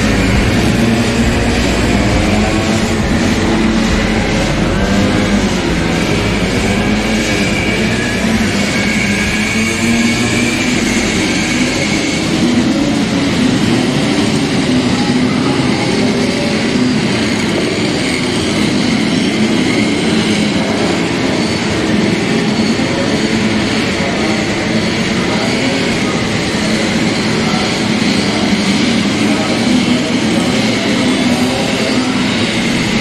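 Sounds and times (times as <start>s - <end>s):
two-stroke scooter engines buzzing: 0.0s - 33.0s.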